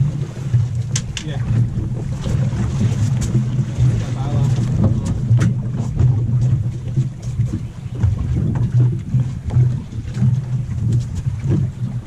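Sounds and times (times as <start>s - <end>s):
boat engine idling: 0.0s - 12.0s
water slapping against hull: 0.0s - 12.0s
wind buffeting microphone: 0.0s - 12.0s.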